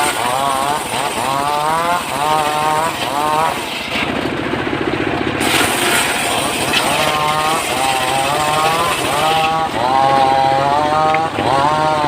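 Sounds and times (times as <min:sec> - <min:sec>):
saw blade whine: 0:00.0 - 0:12.0
saw engine hum: 0:00.0 - 0:12.0.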